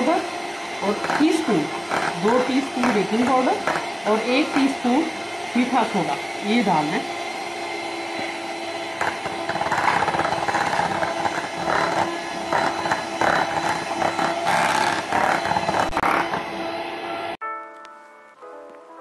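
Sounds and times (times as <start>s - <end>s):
electric hand mixer whining: 0.0s - 17.4s.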